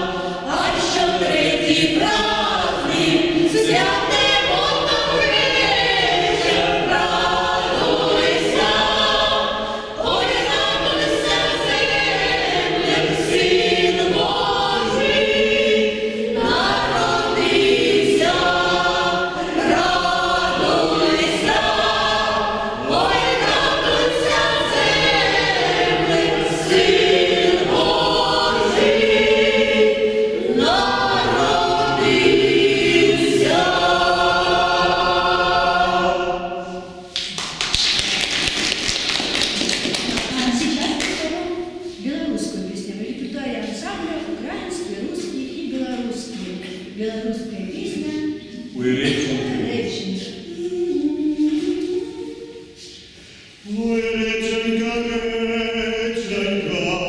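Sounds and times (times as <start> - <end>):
choir singing: 0.0 - 37.2, 38.2 - 57.0.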